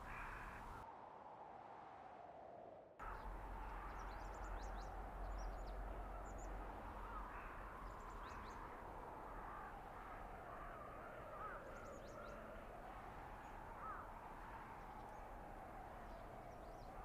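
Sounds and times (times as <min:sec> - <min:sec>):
blizzard wind: 0:00.0 - 0:17.0.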